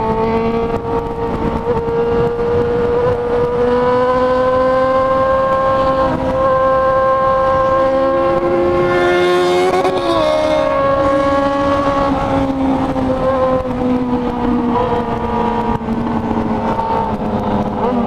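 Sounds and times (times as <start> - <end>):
motorcycle engine at high revs: 0.0 - 18.0
second motorcycle engine revving: 0.0 - 18.0
wind noise: 0.0 - 18.0.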